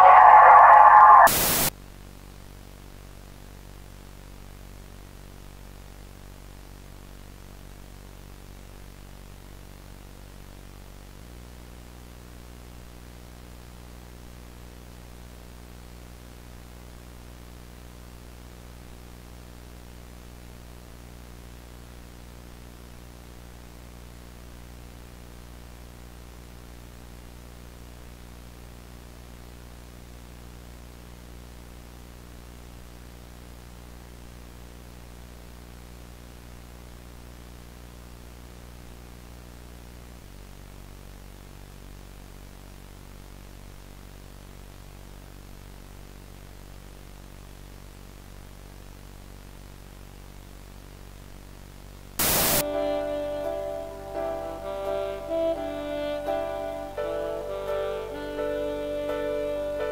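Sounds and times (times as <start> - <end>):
static hiss: 0.0 - 12.6, 15.7 - 59.9
low hum with overtones: 0.0 - 55.7.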